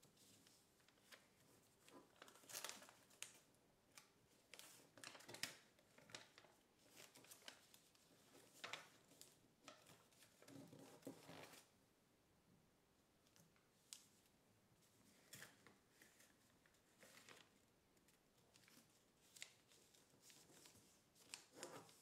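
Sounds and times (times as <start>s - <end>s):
paper rustling and crinkling: 0.0s - 11.7s, 15.0s - 22.0s.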